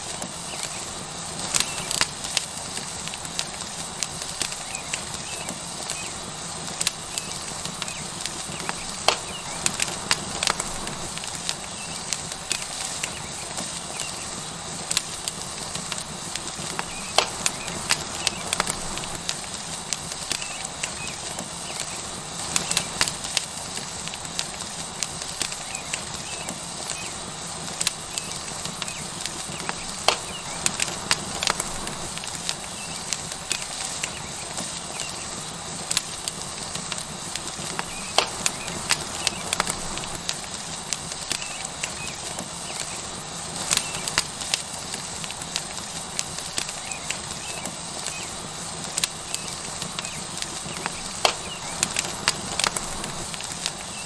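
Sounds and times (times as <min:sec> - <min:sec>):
burning wood crackling and popping: 0:00.0 - 0:54.0
steak sizzling on hot rock: 0:00.0 - 0:54.0.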